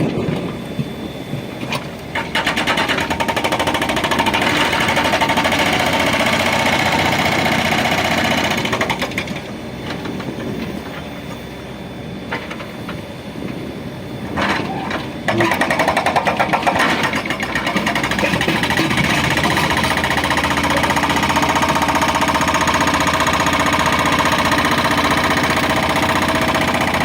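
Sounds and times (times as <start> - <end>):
earth-moving machine diesel engine: 0.0 - 27.0.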